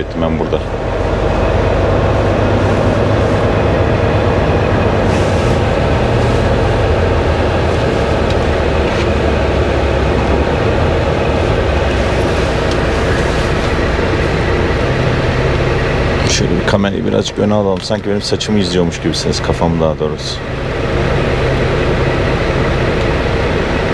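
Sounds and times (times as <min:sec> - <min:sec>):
diesel engine drone: 0:00.0 - 0:23.9.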